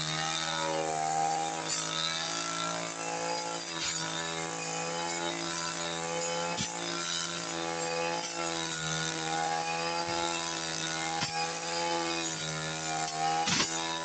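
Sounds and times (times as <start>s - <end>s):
brush cutter engine running: 0.0s - 14.0s.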